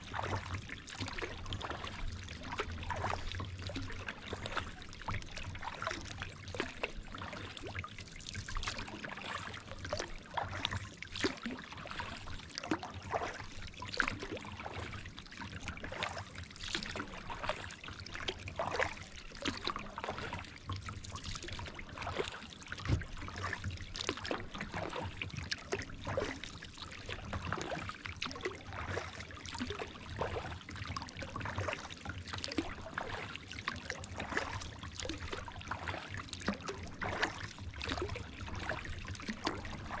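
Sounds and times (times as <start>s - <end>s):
small water splashes: 0.0s - 40.0s
water dripping off paddle: 0.2s - 40.0s.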